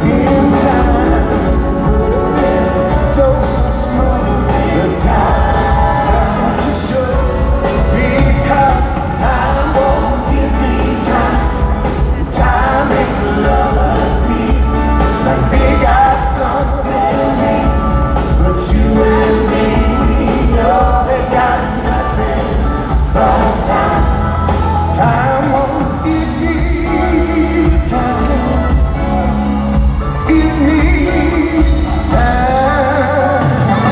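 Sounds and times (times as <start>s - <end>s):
bass: 0.0s - 33.9s
drums: 0.0s - 33.9s
person singing: 0.0s - 33.9s.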